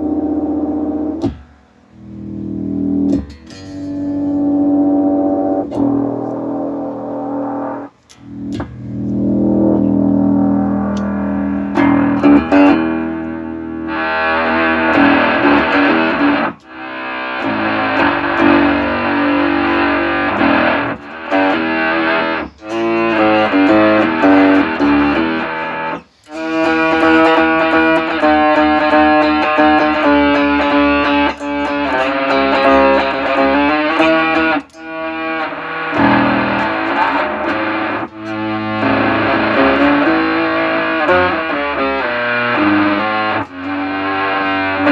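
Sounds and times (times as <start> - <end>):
buzzy synthesized bass tones: 0.0 - 3.4, 4.0 - 44.9.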